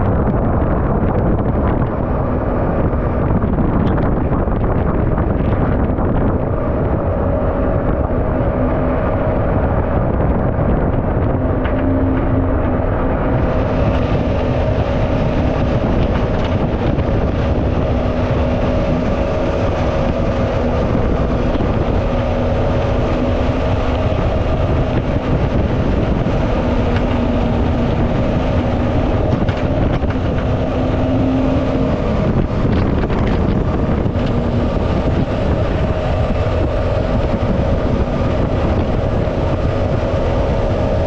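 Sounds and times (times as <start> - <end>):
boat engine drone: 0.0 - 41.0
water and wind rushing: 0.0 - 41.0.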